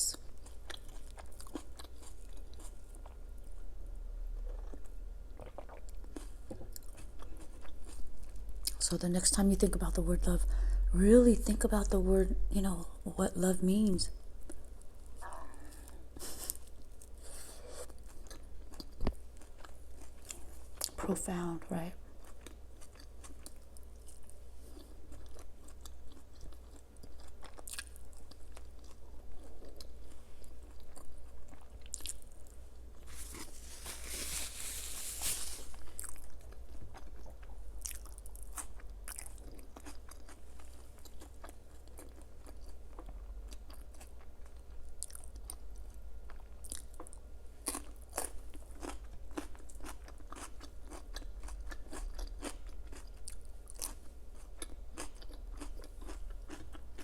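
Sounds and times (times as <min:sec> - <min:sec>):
person chewing crunchy food: 0:00.2 - 0:03.6, 0:04.3 - 0:08.8, 0:14.4 - 0:21.0, 0:22.1 - 0:57.0.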